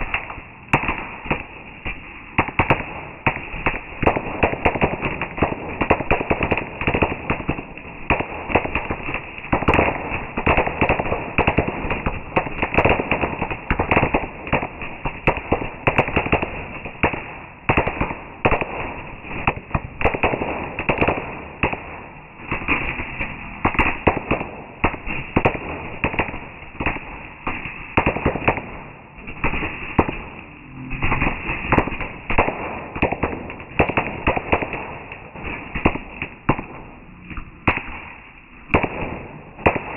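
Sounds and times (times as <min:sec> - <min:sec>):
fireworks crackling bangs: 0:00.0 - 0:39.9.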